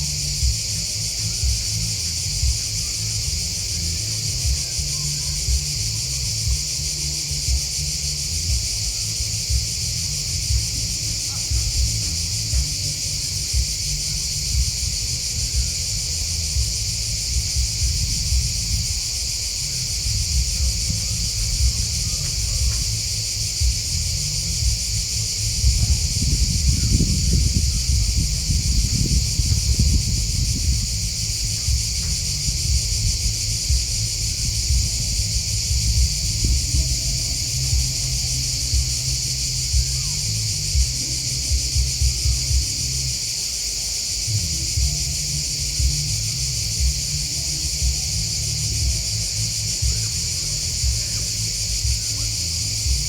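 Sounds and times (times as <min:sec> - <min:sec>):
low rumble: 0:00.0 - 0:43.2, 0:44.2 - 0:53.0
insect chorus chirping: 0:00.0 - 0:53.0.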